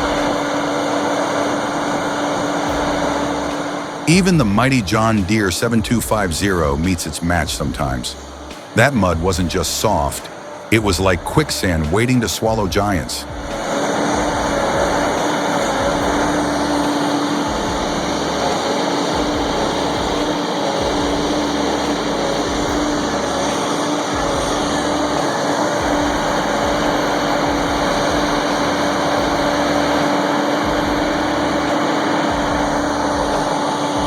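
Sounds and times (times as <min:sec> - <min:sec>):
heavy machine engine humming: 0:00.0 - 0:34.0
loud rush of noise: 0:00.0 - 0:34.0.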